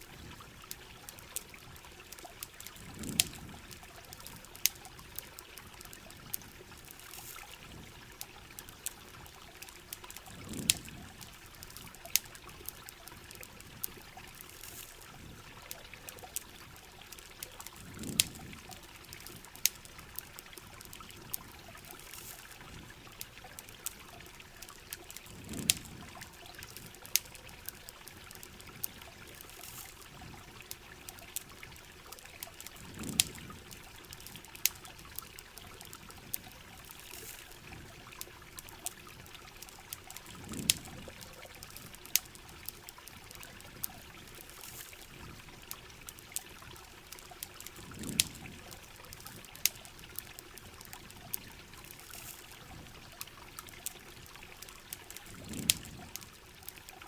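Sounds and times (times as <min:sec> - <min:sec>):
campfire crackling and popping: 0:00.0 - 0:57.0
rain: 0:00.0 - 0:57.0
trickling water: 0:00.0 - 0:57.0.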